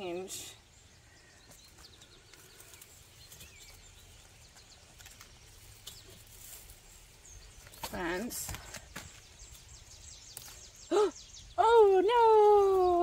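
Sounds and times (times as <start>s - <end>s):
bird chirps: 0.0s - 13.0s
plant leaves rustling: 1.5s - 13.0s.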